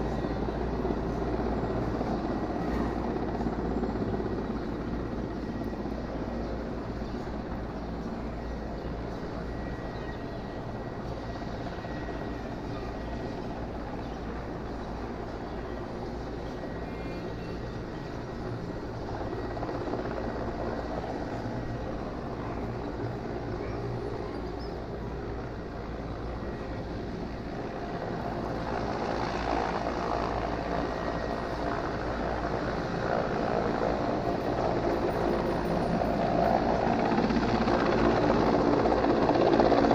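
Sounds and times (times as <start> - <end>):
helicopter flying overhead: 0.0 - 39.9.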